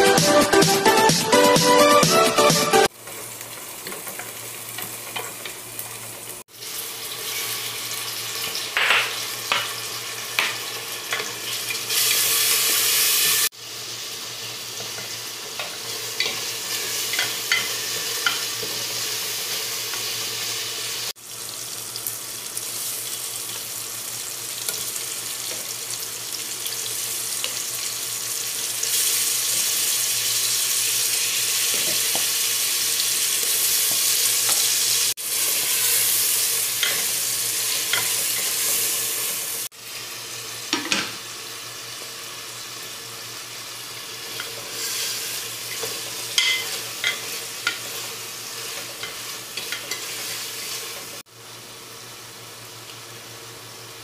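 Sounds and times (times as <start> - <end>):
food sizzling in oil: 2.8 - 54.0.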